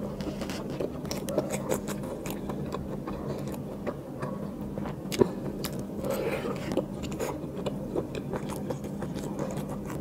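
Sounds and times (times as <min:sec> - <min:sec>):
faint low hum: 0:00.0 - 0:10.0
person chewing food: 0:00.0 - 0:10.0.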